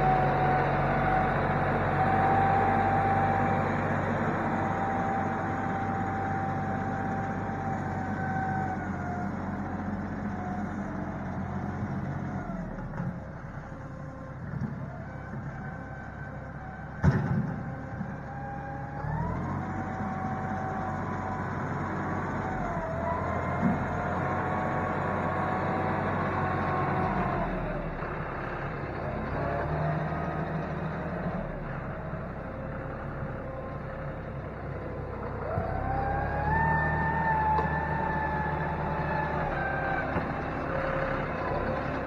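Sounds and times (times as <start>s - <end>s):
engine whine: 0.0s - 42.0s
tractor diesel engine under load: 0.0s - 42.0s.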